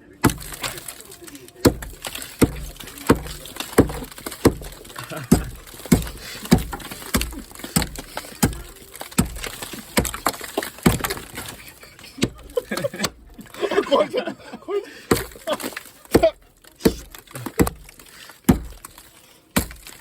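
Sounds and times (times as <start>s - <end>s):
hard rhythmic knocks: 0.2s - 13.5s, 15.1s - 19.0s.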